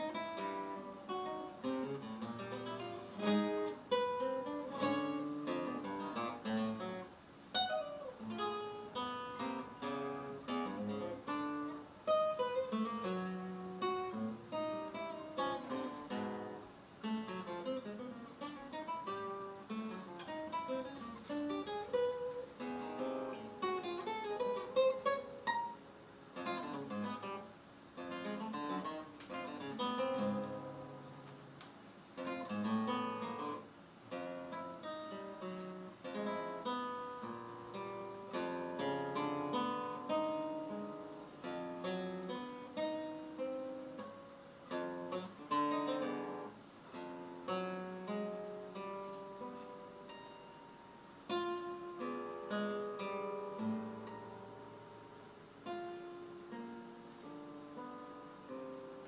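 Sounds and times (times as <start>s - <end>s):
solo guitar piece: 0.0s - 59.0s.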